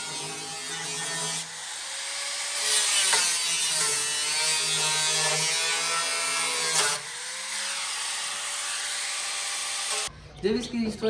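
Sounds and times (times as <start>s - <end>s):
power tool cutting steel: 0.0s - 10.1s.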